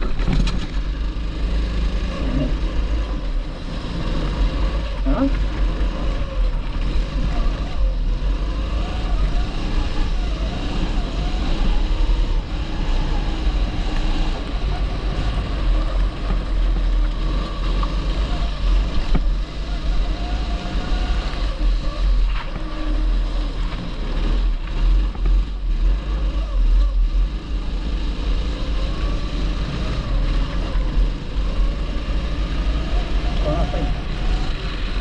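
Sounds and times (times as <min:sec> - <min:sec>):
go-kart engine running: 0:00.0 - 0:35.0.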